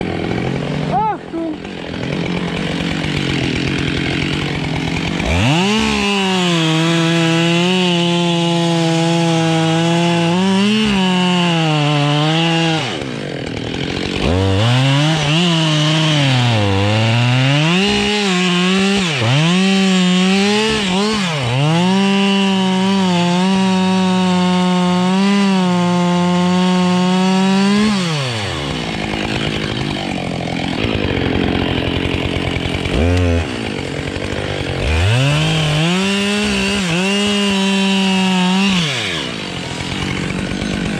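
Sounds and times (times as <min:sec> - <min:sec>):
chainsaw revving and cutting wood: 0:00.0 - 0:40.9.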